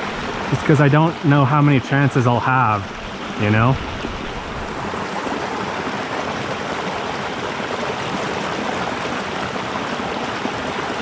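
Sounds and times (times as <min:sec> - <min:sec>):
creek flowing over rocks: 0:00.0 - 0:11.0.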